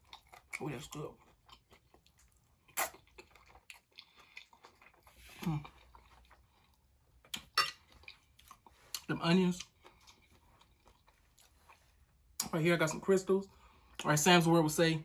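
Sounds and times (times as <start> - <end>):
person chewing wet food: 0.0 - 12.5.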